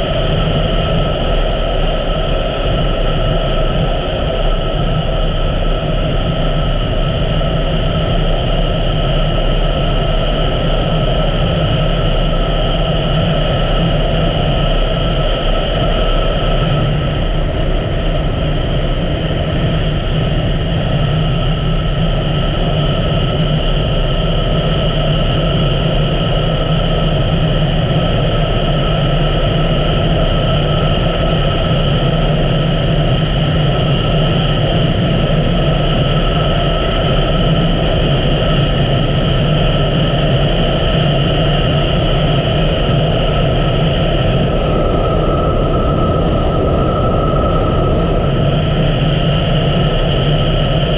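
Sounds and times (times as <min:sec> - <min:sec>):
wind and road noise: 0:00.0 - 0:50.9.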